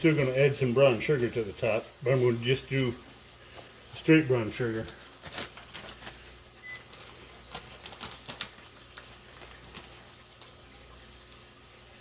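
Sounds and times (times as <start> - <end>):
sugar sprinkled onto ribs: 0.0 - 12.0.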